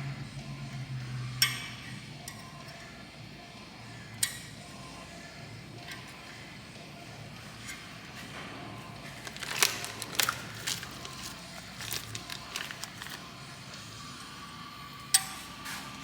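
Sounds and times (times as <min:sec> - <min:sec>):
steady shop hum: 0:00.0 - 0:16.0.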